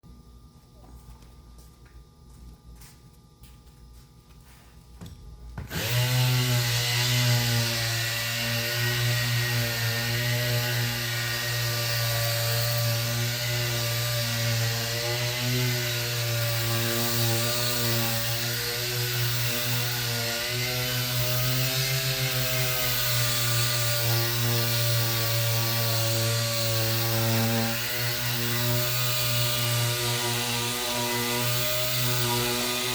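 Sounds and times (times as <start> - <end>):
electric sander running: 5.7 - 32.9.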